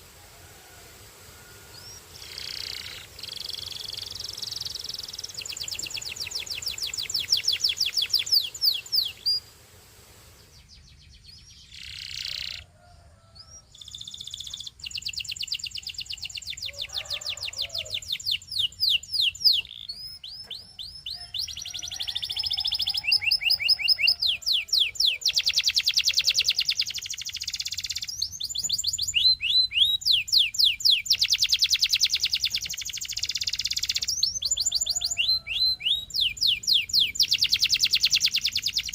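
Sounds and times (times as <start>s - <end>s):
canary singing rapid trills: 1.7s - 9.5s, 10.4s - 12.7s, 13.4s - 38.9s.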